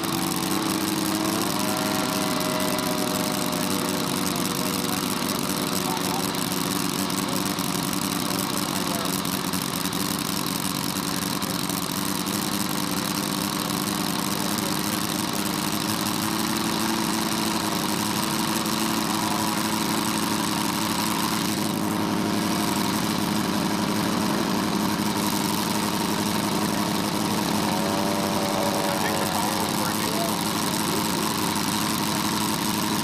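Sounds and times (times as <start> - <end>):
model rotary aero engine idling: 0.0 - 33.0.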